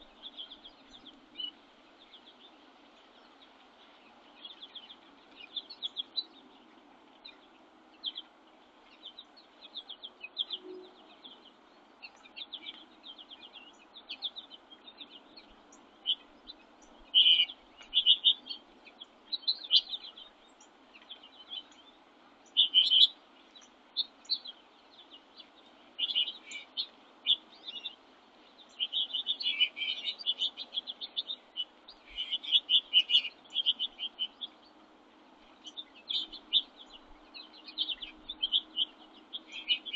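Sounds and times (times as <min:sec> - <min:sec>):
faint steady hiss: 0:00.0 - 0:39.9
small songbirds chirping: 0:00.0 - 0:39.9.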